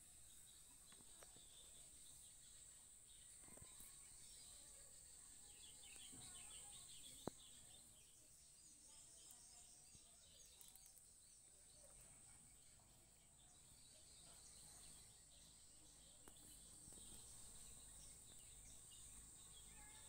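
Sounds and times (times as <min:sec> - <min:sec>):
faint chirping: 0:00.0 - 0:20.0.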